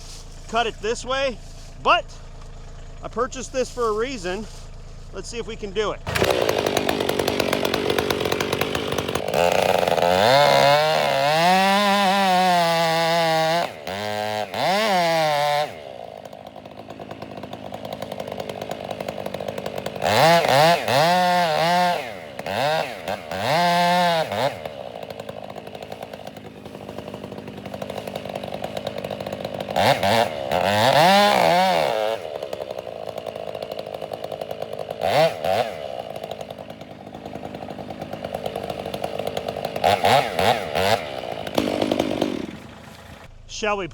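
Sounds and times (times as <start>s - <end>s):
chainsaw cutting at full throttle: 0.0s - 43.3s
chainsaw idling: 0.0s - 43.9s.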